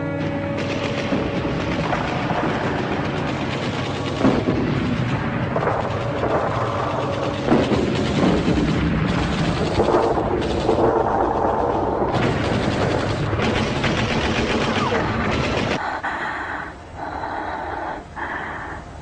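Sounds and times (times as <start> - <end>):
gunfire and artillery rattle: 0.1 - 15.8
loud explosion blasts: 0.5 - 15.8.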